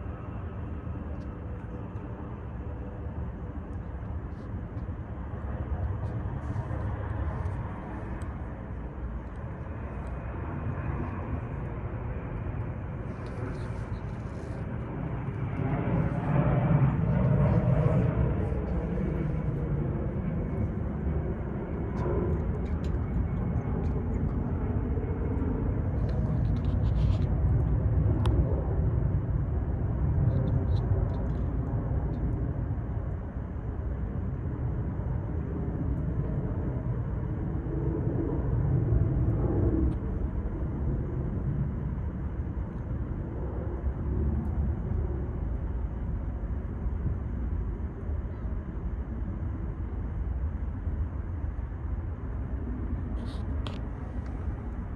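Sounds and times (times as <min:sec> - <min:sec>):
low outdoor rumble: 0:00.0 - 0:54.9.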